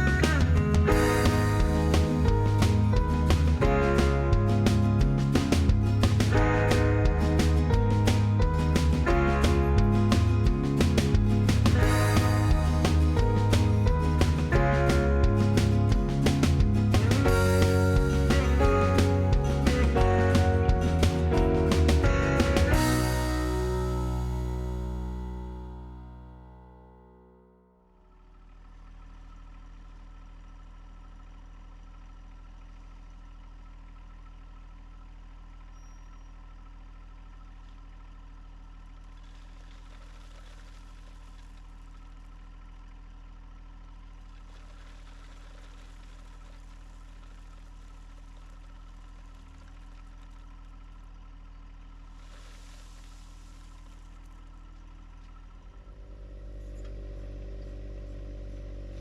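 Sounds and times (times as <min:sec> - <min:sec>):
tractor diesel engine idling: 0:00.0 - 0:26.7, 0:28.2 - 0:40.0, 0:41.0 - 0:59.0.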